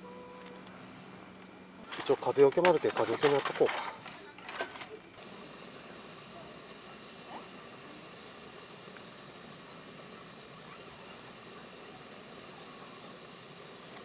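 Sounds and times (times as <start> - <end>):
gas burner hissing: 0.0 - 14.0.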